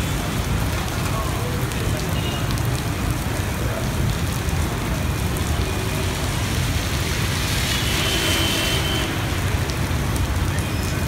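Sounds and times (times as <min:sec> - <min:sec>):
heavy rain on road: 0:00.0 - 0:11.0
traffic rumble: 0:00.0 - 0:11.0.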